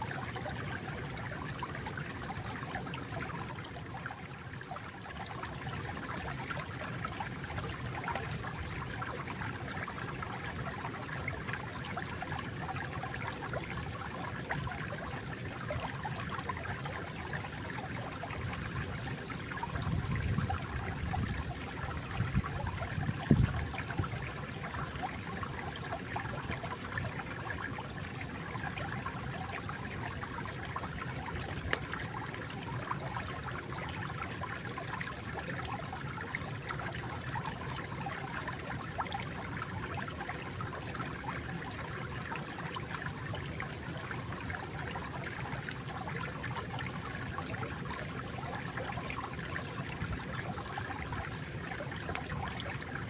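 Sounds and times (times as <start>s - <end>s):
stream water babbling: 0.0s - 53.0s.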